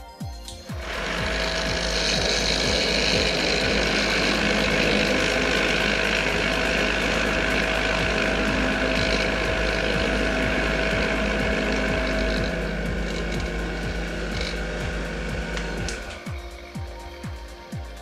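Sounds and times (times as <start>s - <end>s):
tumbler motor humming: 0.0s - 18.0s
hiss of churning tumbler media: 0.7s - 18.0s.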